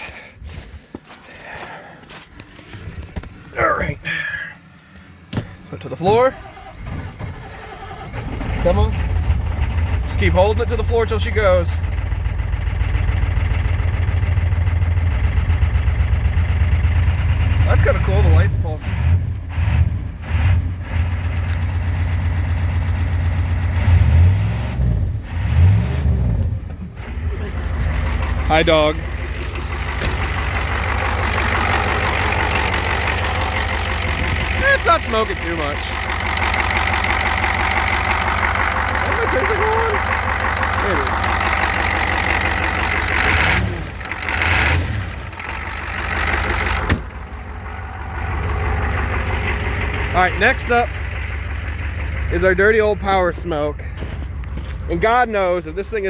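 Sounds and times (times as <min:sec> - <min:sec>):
diesel engine rumbling: 0:00.0 - 0:56.0.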